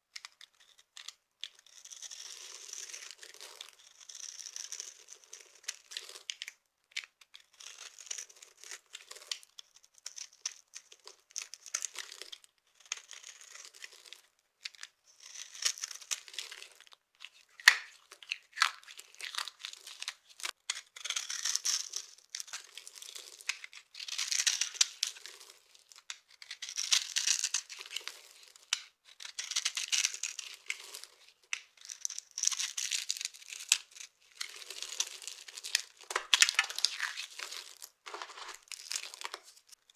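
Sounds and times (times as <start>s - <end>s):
dry soap crackling and crunching: 0.1s - 39.9s.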